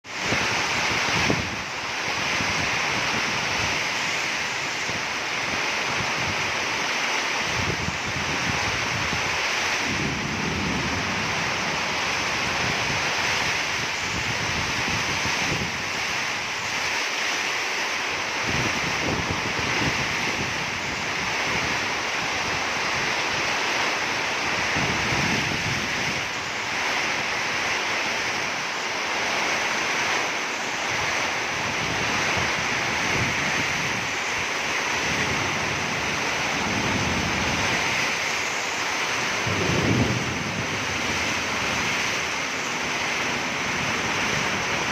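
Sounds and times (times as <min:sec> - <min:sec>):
torrential rain hissing: 0:00.0 - 0:44.9
wind buffeting microphone: 0:00.1 - 0:44.9.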